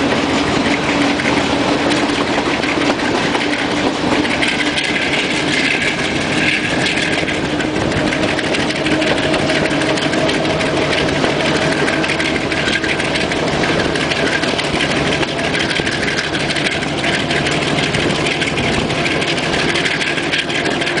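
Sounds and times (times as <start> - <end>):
diesel locomotive engine: 0.0 - 21.0
rumble of moving train: 0.0 - 21.0.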